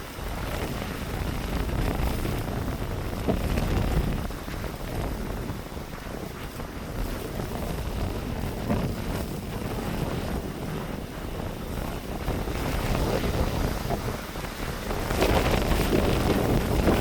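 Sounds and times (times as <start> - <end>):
blizzard wind gusting: 0.0 - 17.0.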